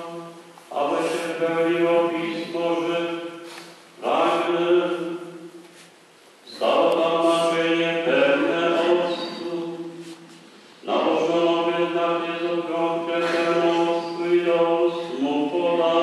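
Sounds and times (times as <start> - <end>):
man chanting into a microphone: 0.0 - 5.6, 6.5 - 16.0.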